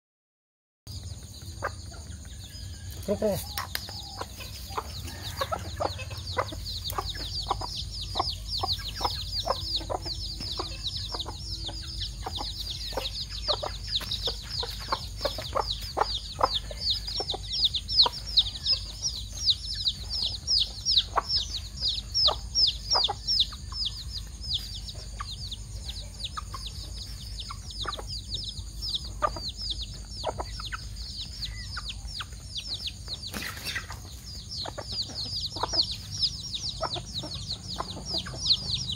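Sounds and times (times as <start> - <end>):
beaks pecking on concrete: 0.9 - 38.9
chicks peeping: 0.9 - 38.9
hen clucking: 1.0 - 38.9.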